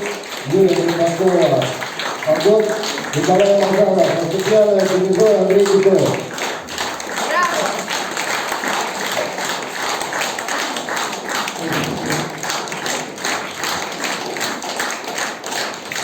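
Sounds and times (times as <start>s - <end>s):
audience clapping in rhythm: 0.0s - 16.0s.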